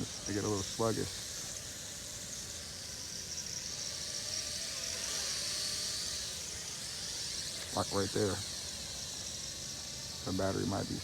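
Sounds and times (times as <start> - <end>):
toy drone propellers whining: 0.0 - 11.0.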